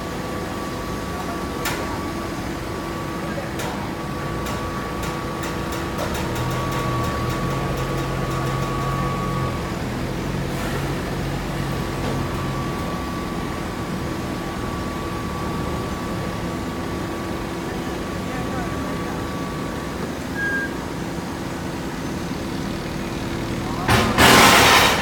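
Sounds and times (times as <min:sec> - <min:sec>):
machine motor and pump hum: 0:00.0 - 0:25.0
steady machine whine: 0:00.0 - 0:25.0.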